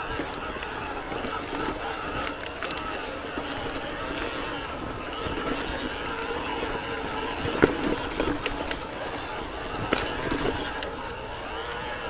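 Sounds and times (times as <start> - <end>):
bike knocking over bumps: 0.0 - 12.0
tyres rumbling over dirt: 0.0 - 12.0.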